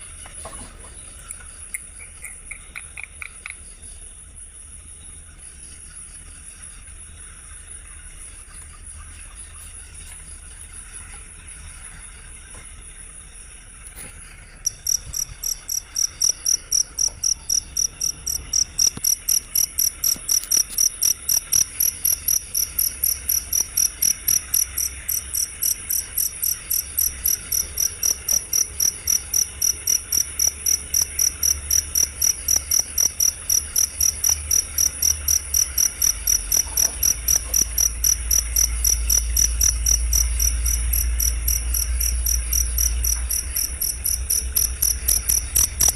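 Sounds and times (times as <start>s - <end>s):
cricket chirping: 0.0s - 45.9s
faint high insect trill: 0.0s - 45.9s.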